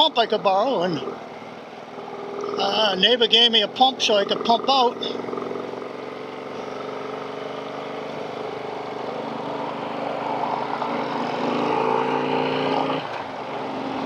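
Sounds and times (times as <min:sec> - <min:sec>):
motorcycle engine accelerating: 0:01.9 - 0:14.0.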